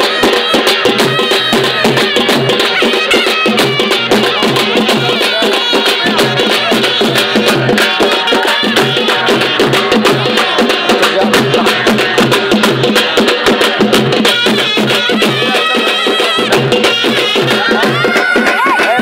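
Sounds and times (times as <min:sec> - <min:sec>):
barrel drums playing fast rhythm: 0:00.0 - 0:19.0.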